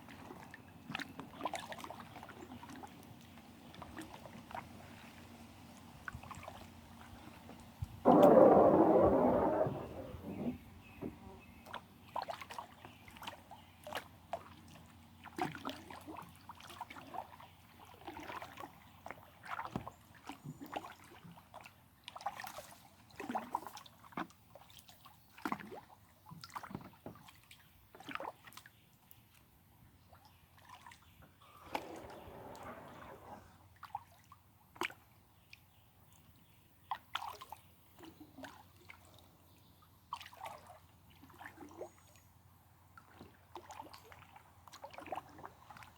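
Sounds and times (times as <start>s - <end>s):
paddle splashes: 0.0s - 28.7s, 30.6s - 35.1s, 40.1s - 41.9s, 43.0s - 45.9s
water sloshing around kayak: 0.0s - 28.9s, 30.0s - 35.5s, 36.4s - 42.1s, 42.9s - 45.9s.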